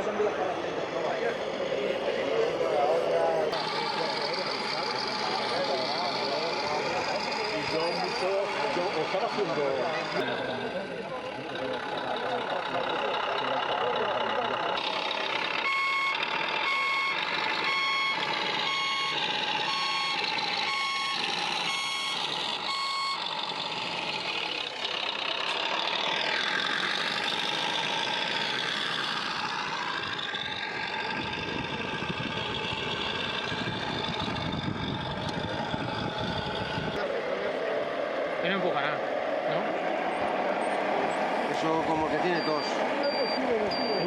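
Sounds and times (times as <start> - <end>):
reversing beeper: 0.0 - 10.8, 14.7 - 37.1, 41.4 - 44.0.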